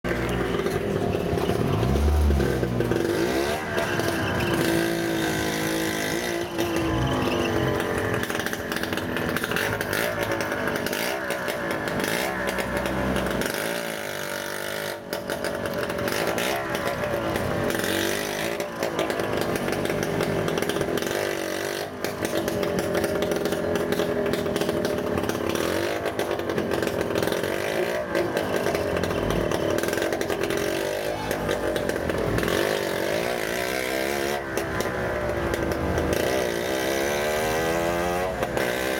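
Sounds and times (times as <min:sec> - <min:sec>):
auto-rickshaw engine running: 0:00.0 - 0:38.9.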